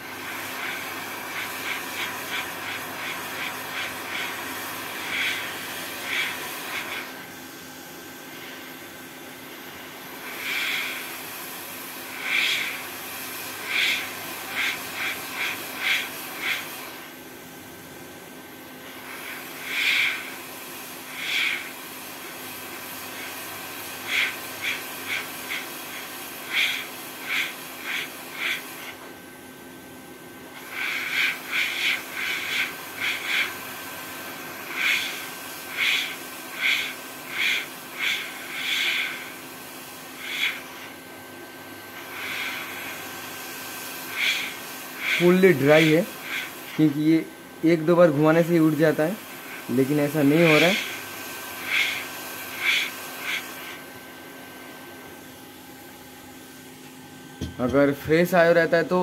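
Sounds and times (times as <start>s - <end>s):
hot air station hissing: 0.0s - 59.0s.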